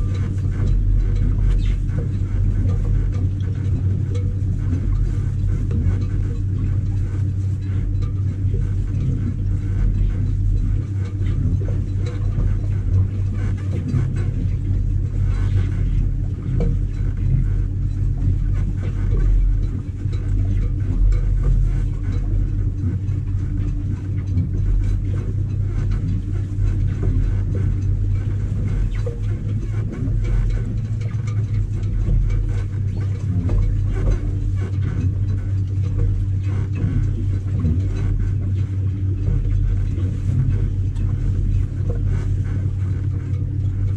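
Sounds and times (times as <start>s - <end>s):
electric boat motor humming: 0.0s - 43.9s.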